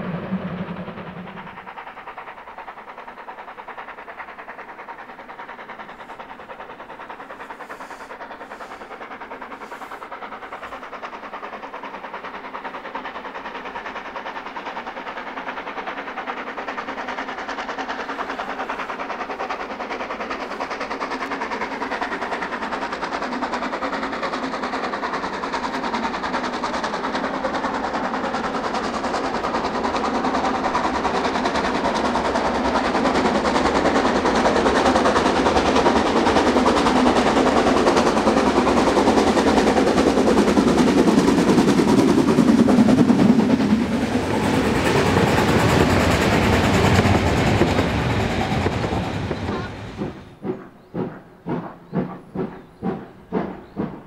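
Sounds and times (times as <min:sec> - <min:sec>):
steam locomotive exhaust beats: 0:00.0 - 0:54.0
train wheels clattering on rails: 0:00.0 - 0:54.0.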